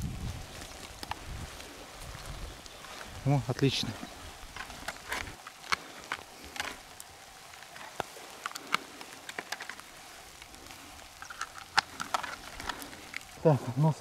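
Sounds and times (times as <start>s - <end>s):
dry straw rustling: 0.0s - 14.0s.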